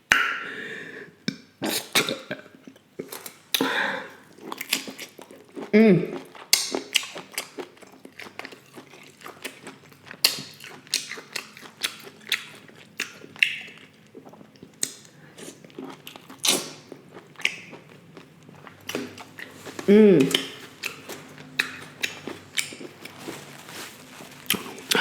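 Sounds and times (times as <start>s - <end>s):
person chewing food: 1.3s - 25.0s.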